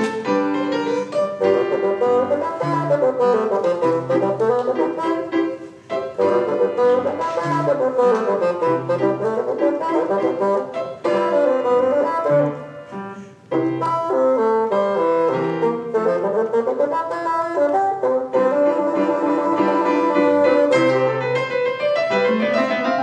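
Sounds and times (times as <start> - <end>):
bassoon: 0.0 - 21.5
piano accompaniment: 0.0 - 23.0.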